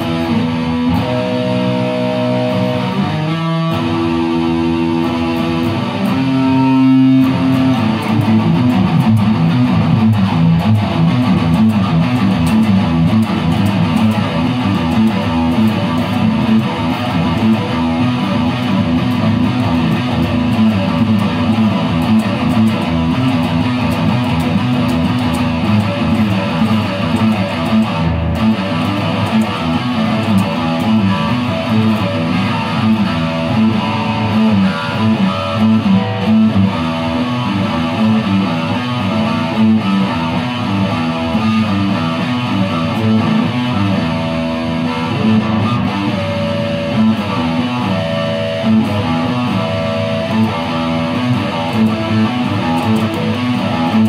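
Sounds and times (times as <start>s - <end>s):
electric guitar metal riff: 0.0s - 54.0s.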